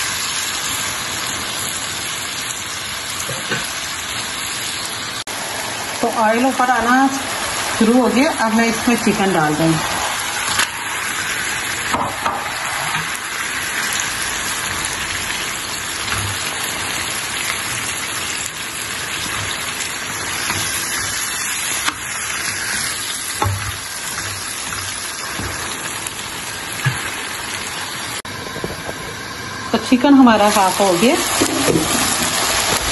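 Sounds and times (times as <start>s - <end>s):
chicken sizzling in a pan: 0.0s - 32.9s.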